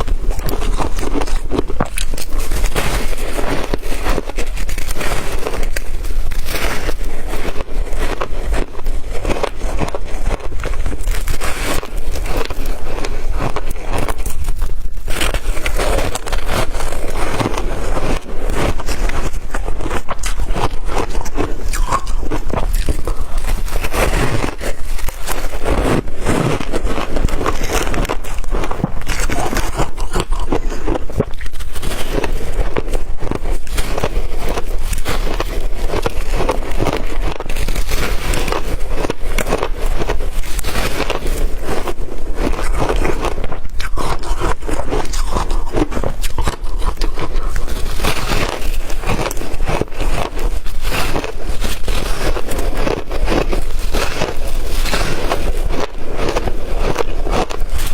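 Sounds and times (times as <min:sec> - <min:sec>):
ice crunching in mouth: 0:00.0 - 0:57.9.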